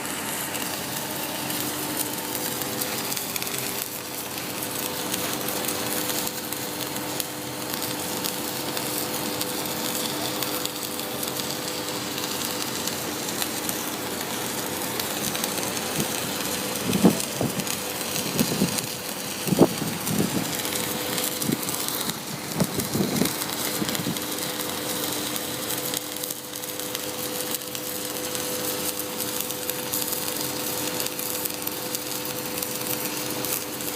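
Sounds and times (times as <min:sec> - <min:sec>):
welding arc crackling: 0:00.0 - 0:33.9.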